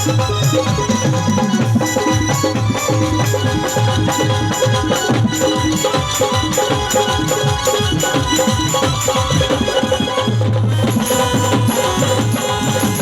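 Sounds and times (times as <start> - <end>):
drums and hand percussion: 0.0 - 13.0.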